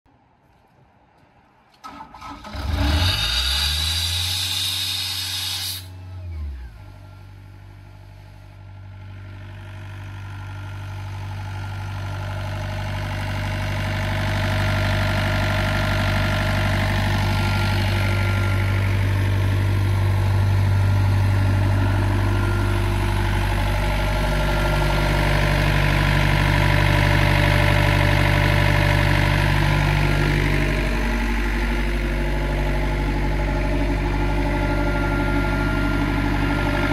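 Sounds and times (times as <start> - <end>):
diesel air compressor engine running: 2.7 - 36.9.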